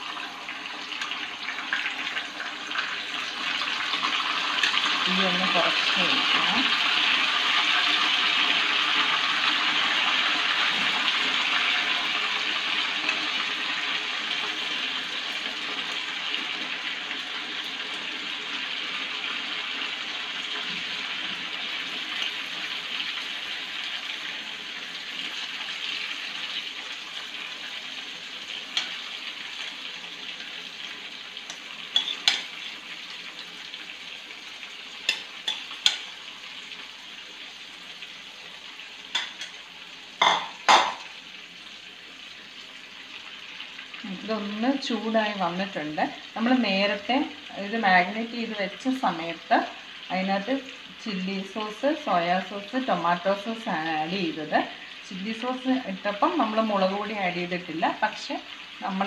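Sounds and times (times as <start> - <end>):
chicken sizzling in oil: 0.0 - 59.0.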